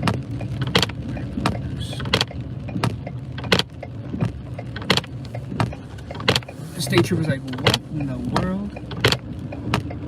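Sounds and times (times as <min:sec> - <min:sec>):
turn-signal flasher ticking: 0:00.0 - 0:10.0
vehicle rumbling on road: 0:00.0 - 0:10.0.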